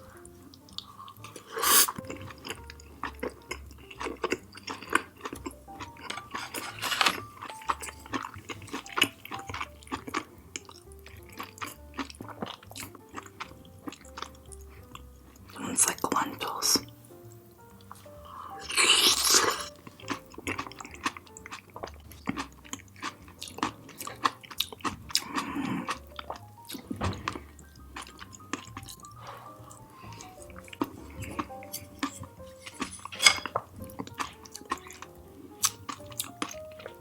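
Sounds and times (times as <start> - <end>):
close chewing of food: 0.0 - 37.0
soft background music: 0.0 - 37.0.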